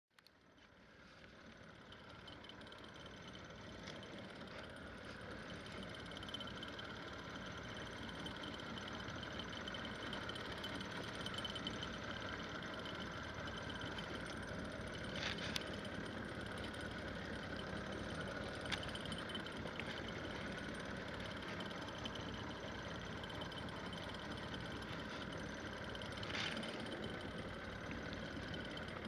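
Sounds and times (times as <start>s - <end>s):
motor hum with faint whine: 0.2s - 29.0s.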